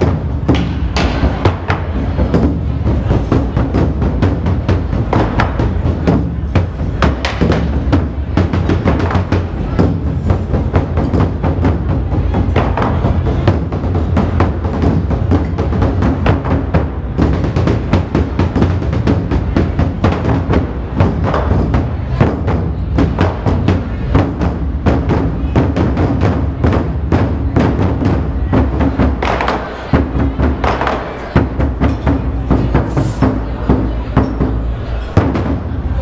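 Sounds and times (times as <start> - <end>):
large drums beaten fast: 0.0 - 36.0.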